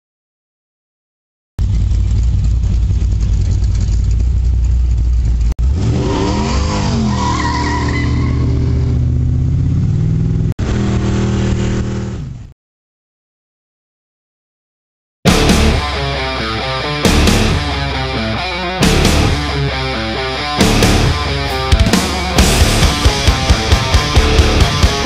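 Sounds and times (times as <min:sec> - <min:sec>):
car engine idling and revving: 0:01.6 - 0:12.5, 0:15.3 - 0:25.0.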